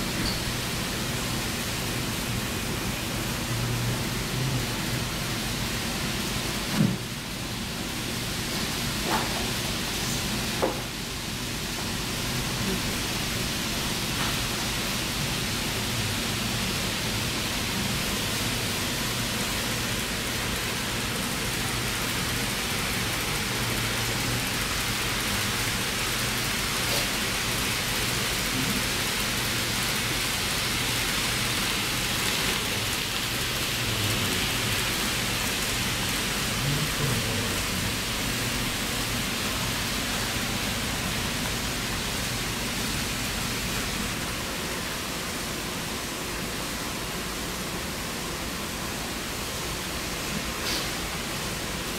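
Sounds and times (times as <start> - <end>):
model trains rolling on track: 0.0 - 51.9.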